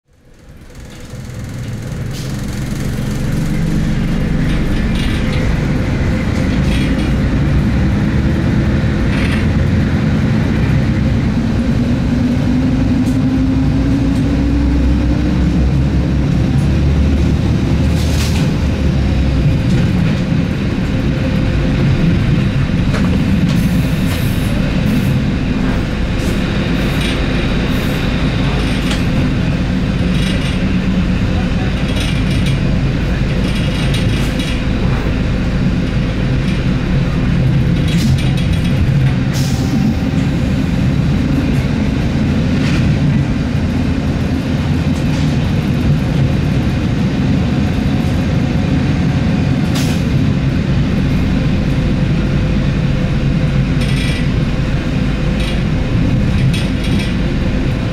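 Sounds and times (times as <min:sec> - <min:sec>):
diesel engine running: 0:00.1 - 0:57.9
wheels clicking over track joints: 0:00.2 - 0:11.0, 0:17.3 - 0:48.3, 0:51.1 - 0:57.9.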